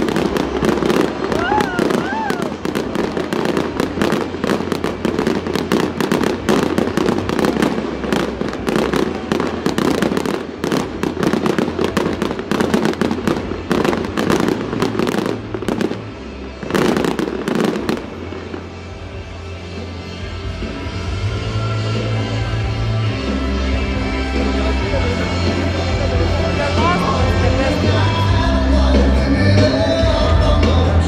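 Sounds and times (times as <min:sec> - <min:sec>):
fireworks crackling and banging: 0:00.0 - 0:31.0
music: 0:00.0 - 0:31.0.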